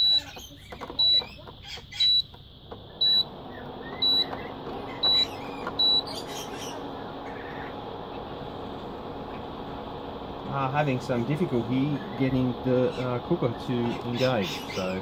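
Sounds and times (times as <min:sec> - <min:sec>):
cooling fan hum: 0:00.0 - 0:15.0.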